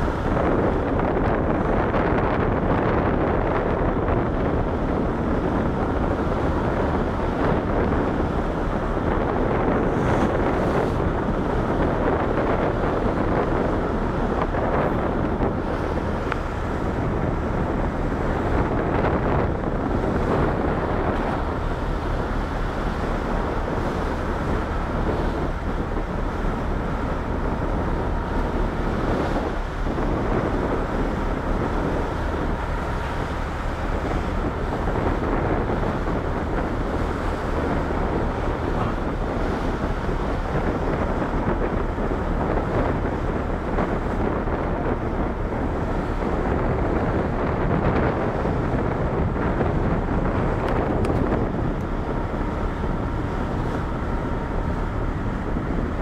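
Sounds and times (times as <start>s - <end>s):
low steady hum: 0.0s - 56.0s
wind rumbling on microphone: 0.0s - 56.0s.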